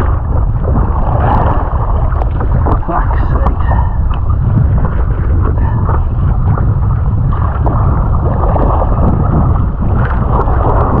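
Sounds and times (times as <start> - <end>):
water sloshing and splashing: 0.0 - 11.0
wind buffeting on microphone: 0.0 - 11.0.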